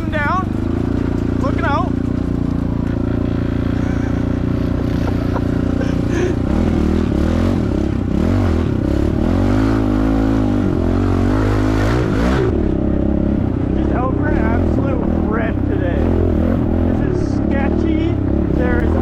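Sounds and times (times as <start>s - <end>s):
motorbike engine revving: 0.0s - 19.0s.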